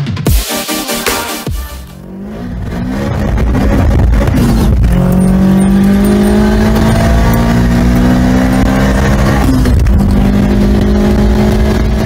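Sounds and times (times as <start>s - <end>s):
car engine accelerating: 1.9s - 12.0s.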